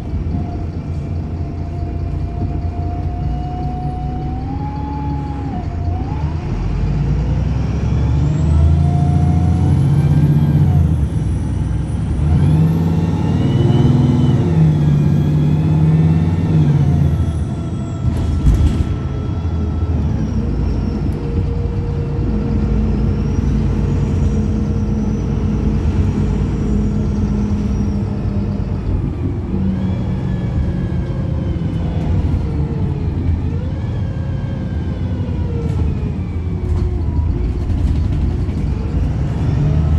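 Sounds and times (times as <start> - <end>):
bus engine revving: 0.0 - 39.9.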